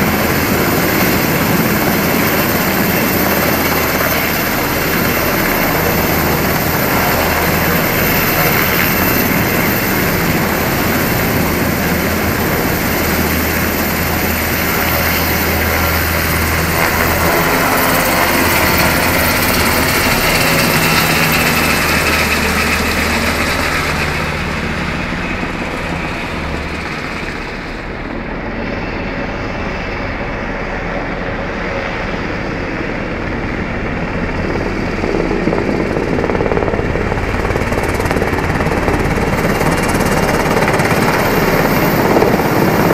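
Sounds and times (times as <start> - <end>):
helicopter flying overhead: 0.0 - 42.9.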